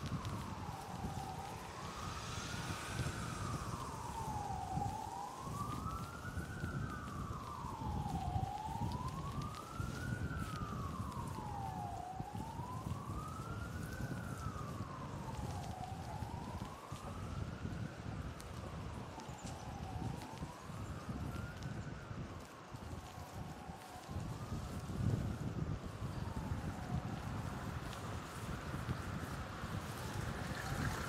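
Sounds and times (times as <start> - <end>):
siren wailing: 0.0 - 31.0
wind and road noise: 0.0 - 31.0.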